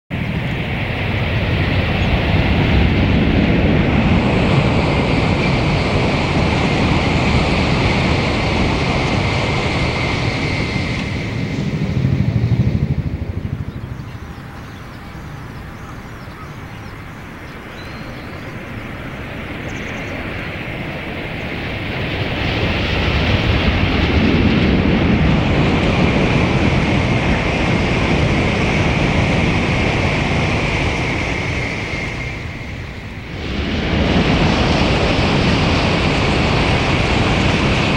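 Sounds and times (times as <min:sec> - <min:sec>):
bullet train passing at speed: 0:00.1 - 0:37.9.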